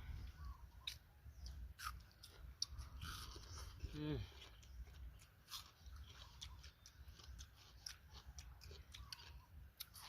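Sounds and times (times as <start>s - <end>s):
person chewing: 0.2s - 10.0s.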